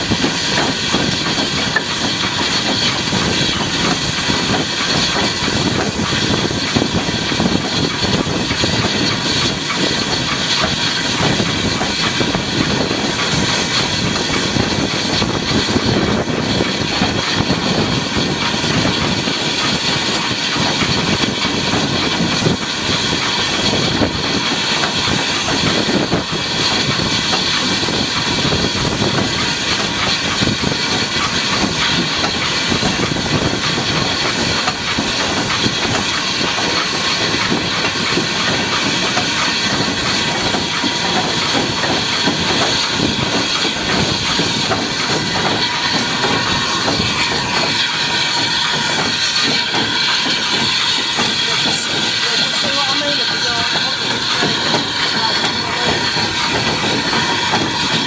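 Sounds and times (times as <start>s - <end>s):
locomotive wheels clattering on rails: 0.0s - 58.0s
steam hissing: 0.0s - 58.0s.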